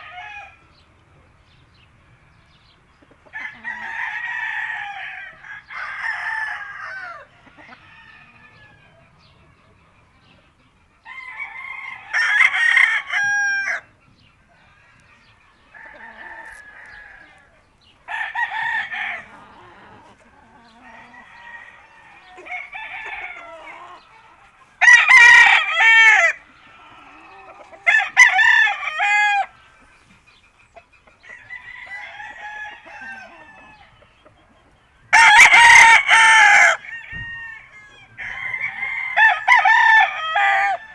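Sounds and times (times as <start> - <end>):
roosters crowing: 0.0 - 0.8, 2.5 - 10.2, 11.0 - 40.9.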